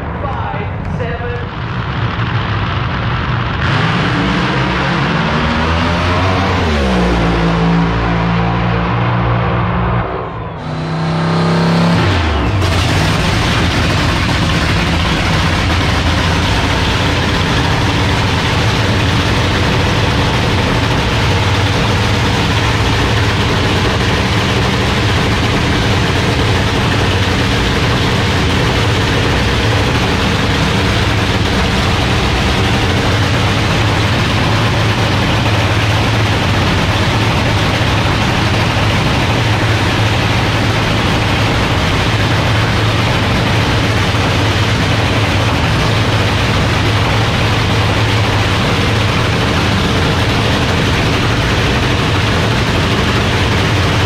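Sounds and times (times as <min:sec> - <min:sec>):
drag racing engine idling: 0:00.0 - 0:54.0.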